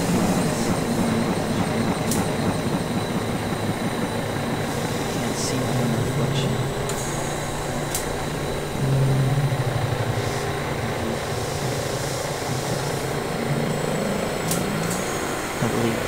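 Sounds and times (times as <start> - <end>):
low droning electronic noise: 0.0 - 16.0
pulsing low tone: 0.0 - 16.0
steady hiss: 0.0 - 16.0.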